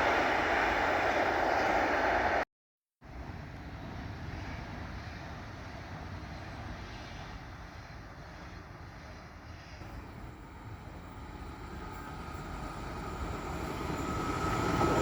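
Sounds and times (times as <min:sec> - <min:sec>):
distant train rumble: 0:00.0 - 0:02.4, 0:03.1 - 0:15.0.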